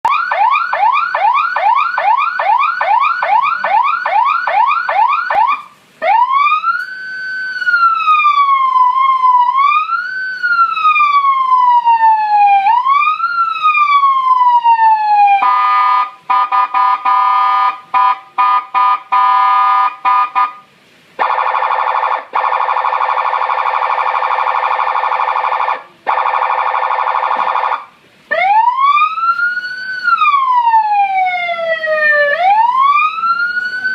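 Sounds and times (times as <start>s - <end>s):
electronic police siren: 0.0s - 20.6s, 21.2s - 33.9s.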